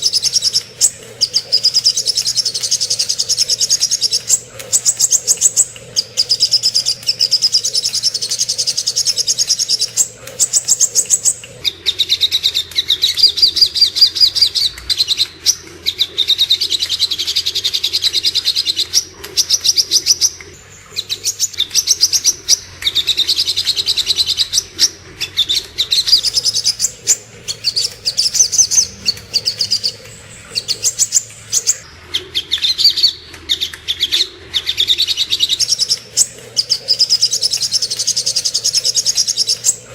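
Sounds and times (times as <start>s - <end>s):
bird calling sharp chipping notes: 0.0s - 31.9s, 35.1s - 39.9s.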